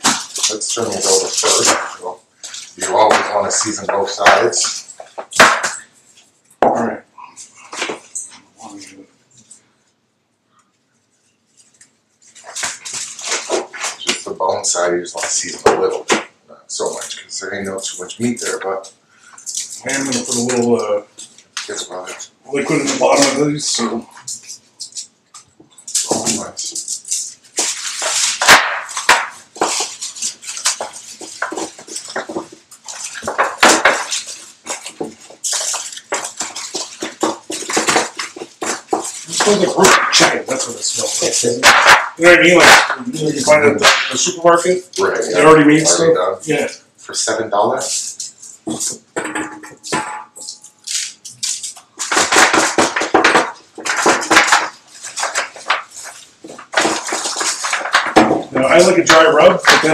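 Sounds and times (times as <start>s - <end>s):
foil crinkling: 0.0s - 6.3s, 10.6s - 16.1s, 16.8s - 59.9s.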